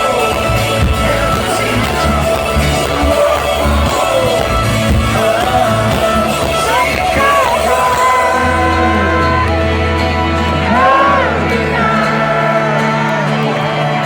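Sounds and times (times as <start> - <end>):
crowd singing along: 0.0 - 14.0
rock band playing live: 0.0 - 14.0.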